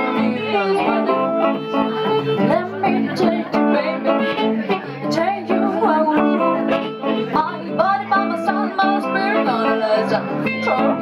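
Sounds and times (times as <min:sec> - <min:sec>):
electric guitar: 0:00.0 - 0:11.0.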